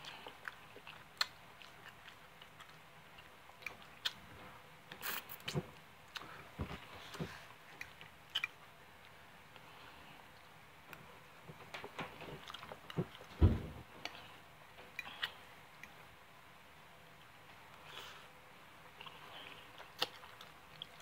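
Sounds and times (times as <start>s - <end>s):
faint chewing: 0.0s - 13.3s, 14.0s - 16.1s, 17.2s - 21.0s.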